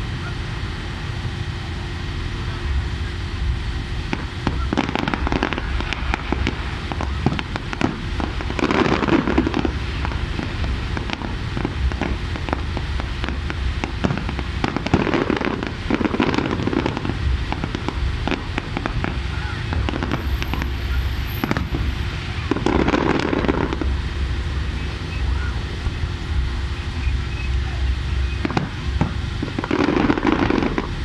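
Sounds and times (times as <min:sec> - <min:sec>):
fireworks popping and crackling: 0:00.0 - 0:31.0.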